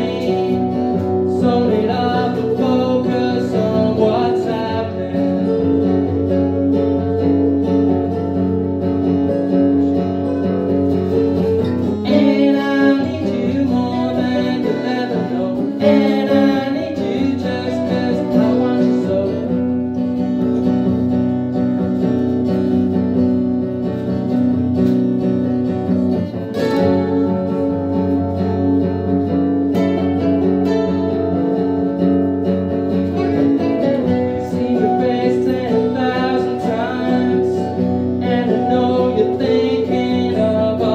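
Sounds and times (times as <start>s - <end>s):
acoustic guitars strumming: 0.0s - 40.9s.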